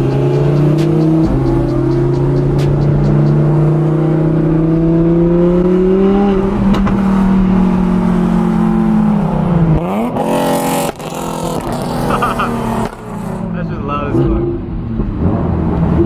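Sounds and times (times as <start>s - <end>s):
car engine revving loudly: 0.0s - 16.0s.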